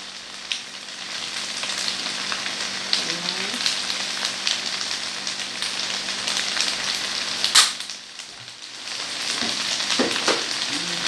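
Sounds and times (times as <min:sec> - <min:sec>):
pasta sizzling in a frying pan: 0:00.0 - 0:11.0.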